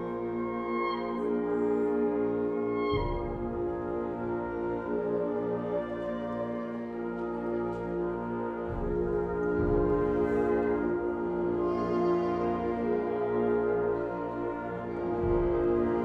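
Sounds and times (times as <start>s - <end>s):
wind ensemble sustained chords: 0.0s - 16.0s.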